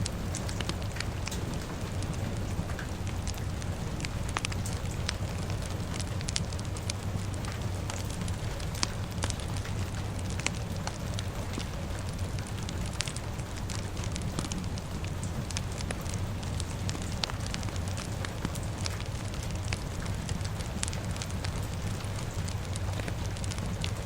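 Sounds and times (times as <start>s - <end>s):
low rumble: 0.0s - 24.0s
rain hissing: 0.0s - 24.0s
wood fire crackling and popping: 0.0s - 24.0s.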